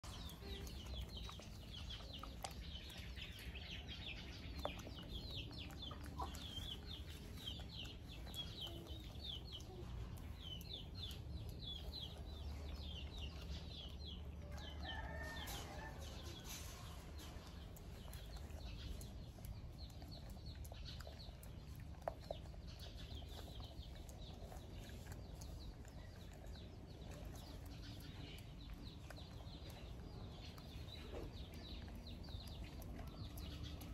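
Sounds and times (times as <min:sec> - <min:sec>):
chickens peeping: 0:00.0 - 0:33.9.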